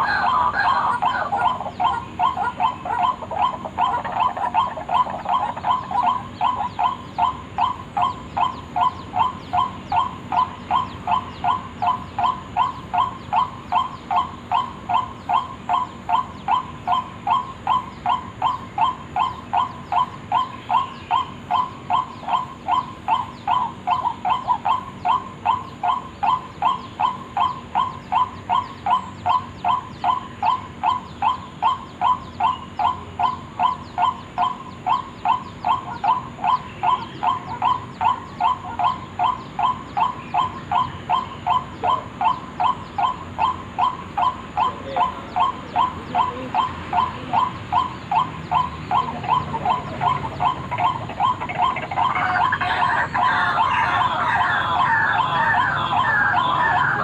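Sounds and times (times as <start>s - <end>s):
bird croaking: 0.0s - 57.0s.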